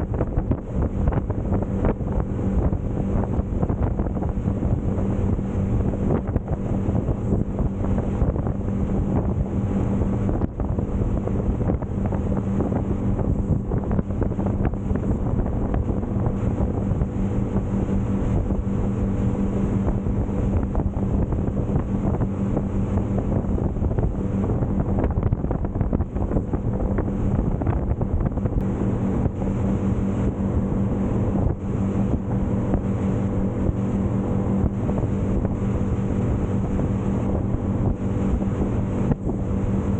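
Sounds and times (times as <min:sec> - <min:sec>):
outboard engine droning: 0:00.0 - 0:39.9
water rushing past hull: 0:00.0 - 0:39.9
wind buffeting microphone: 0:00.0 - 0:39.9.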